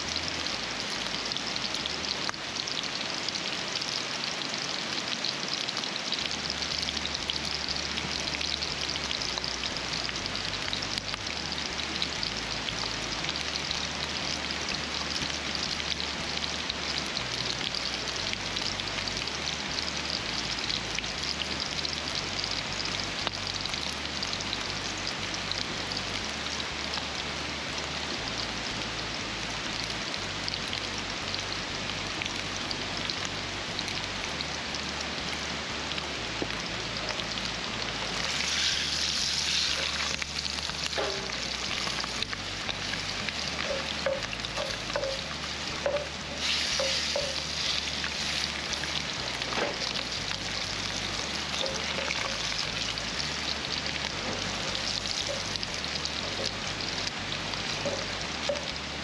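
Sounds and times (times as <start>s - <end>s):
sausages sizzling in frying: 0.0s - 59.0s.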